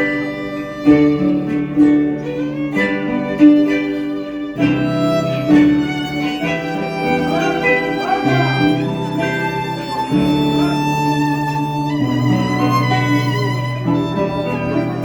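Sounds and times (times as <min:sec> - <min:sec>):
harp and bowed strings music: 0:00.0 - 0:15.0.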